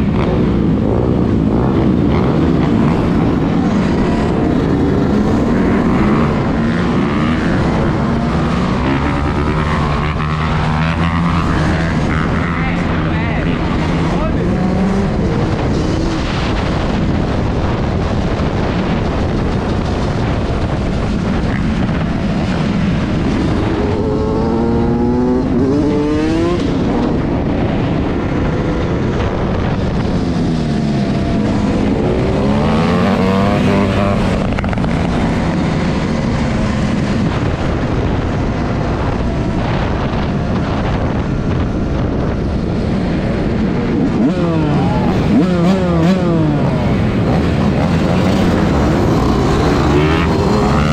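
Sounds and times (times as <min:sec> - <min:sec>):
loud steady rushing noise: 0:00.0 - 0:50.9
motorcycle engine revving: 0:00.0 - 0:50.9.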